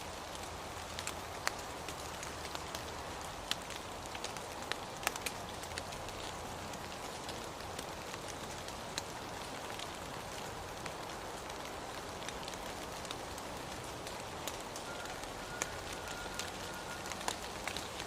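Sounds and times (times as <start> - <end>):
steady rain hissing: 0.0 - 18.0.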